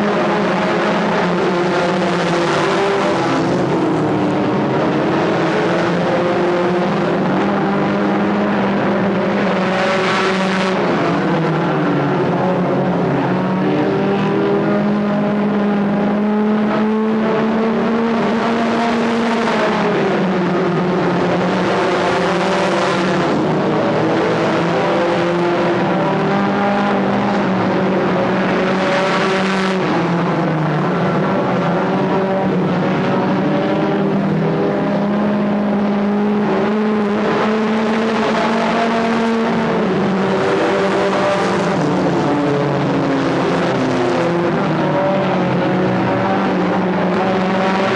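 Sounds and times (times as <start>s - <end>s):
stock car engines racing: 0.0s - 47.9s.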